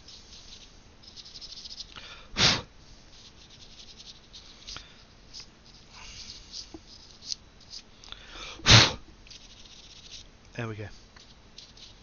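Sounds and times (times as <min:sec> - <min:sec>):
scratchy rubbing and ticking: 0:00.0 - 0:02.0, 0:02.9 - 0:08.1, 0:09.2 - 0:12.0.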